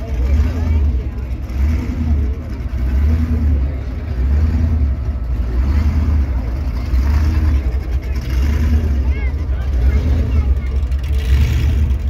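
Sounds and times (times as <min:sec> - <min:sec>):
monster truck engines revving: 0:00.0 - 0:12.0.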